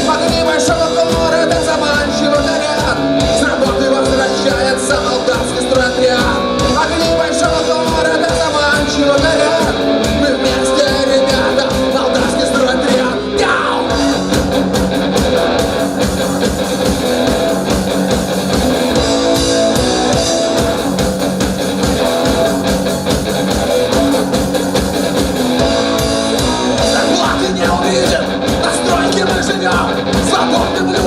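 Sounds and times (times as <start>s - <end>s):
steady drum beat: 0.0s - 13.2s, 13.8s - 31.0s
rock band guitars: 0.0s - 31.0s.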